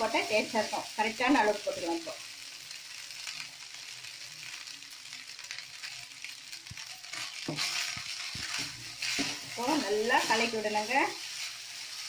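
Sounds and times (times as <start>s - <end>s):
fried rice sizzling: 0.0s - 12.0s.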